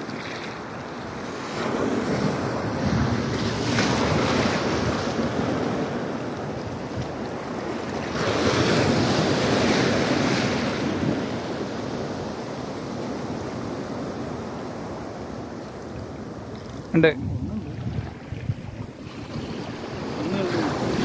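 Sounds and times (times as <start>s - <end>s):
sea surf washing around legs: 0.0s - 21.0s.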